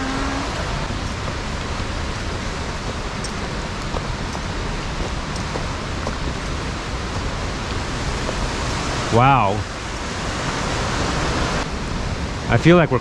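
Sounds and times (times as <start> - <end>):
mountain stream rushing: 0.0 - 12.9.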